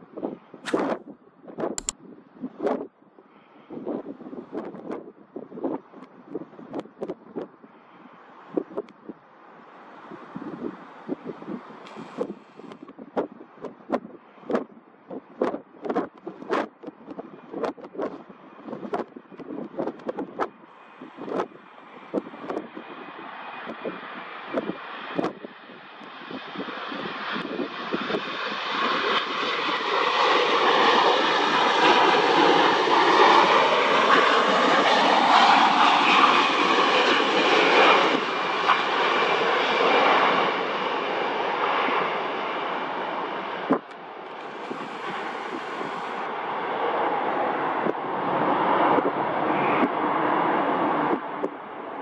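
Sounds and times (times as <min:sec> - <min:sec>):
wind on microphone: 0:00.0 - 0:09.3, 0:09.9 - 0:51.7
jet airliner engines passing overhead: 0:00.0 - 0:52.0.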